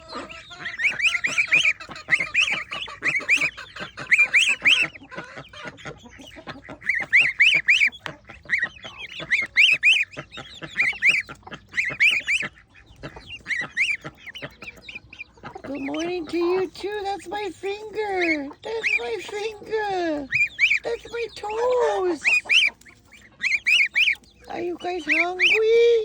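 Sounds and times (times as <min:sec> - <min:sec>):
chickens clucking: 0:00.0 - 0:26.0
geese honking: 0:00.0 - 0:26.0.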